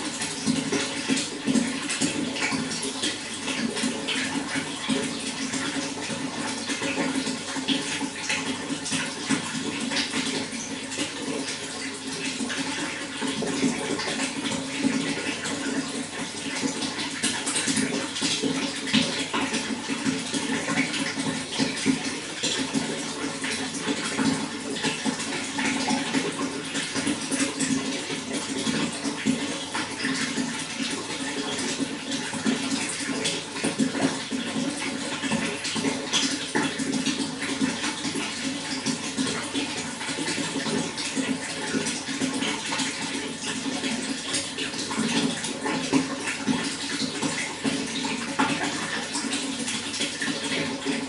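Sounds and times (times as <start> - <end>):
water flowing and splashing: 0.0 - 51.0.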